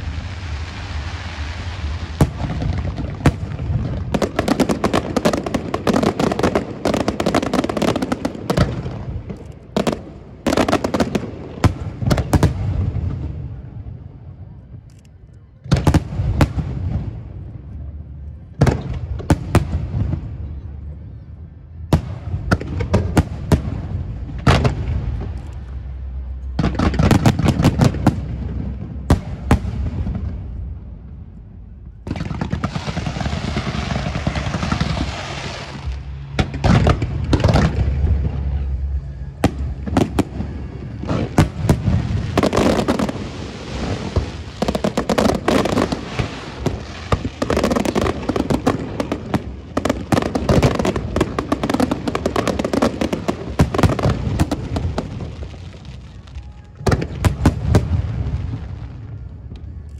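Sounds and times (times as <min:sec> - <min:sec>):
fireworks bursting: 0:00.0 - 0:14.2, 0:21.8 - 0:59.9.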